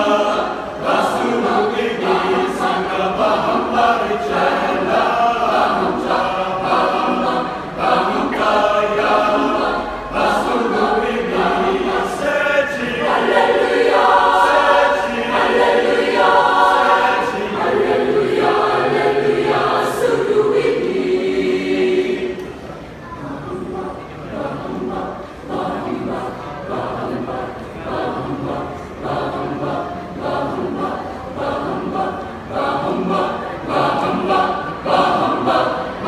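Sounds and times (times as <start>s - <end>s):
mixed choir singing a cappella: 0.0s - 36.0s.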